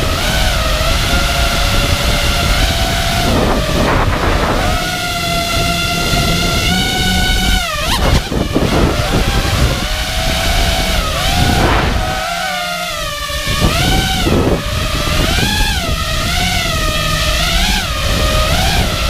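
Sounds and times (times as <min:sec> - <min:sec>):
quadcopter propellers whining: 0:00.0 - 0:19.0
wind on microphone: 0:00.0 - 0:19.0.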